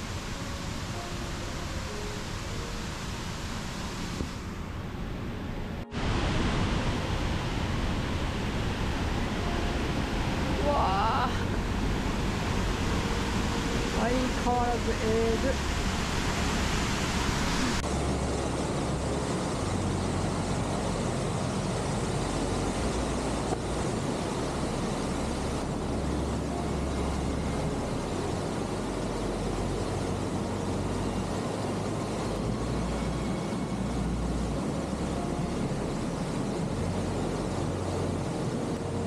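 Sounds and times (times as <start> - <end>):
mountain stream rushing: 0.0 - 39.0.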